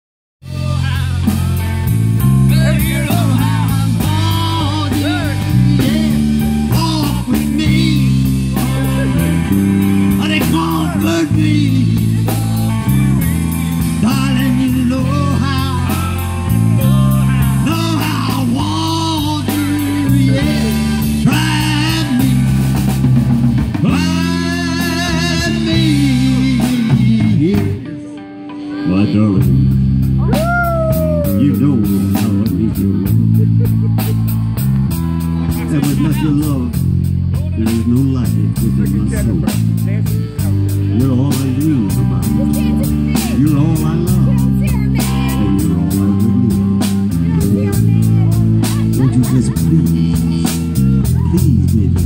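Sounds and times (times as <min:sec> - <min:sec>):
man singing into a microphone: 0:00.4 - 0:01.5, 0:02.2 - 0:12.8, 0:13.8 - 0:22.8, 0:23.7 - 0:33.6, 0:35.5 - 0:36.8, 0:37.4 - 0:52.0
drum kit: 0:00.4 - 0:28.0, 0:29.4 - 0:52.0
bass guitar: 0:00.4 - 0:52.0
electric guitar: 0:00.4 - 0:52.0.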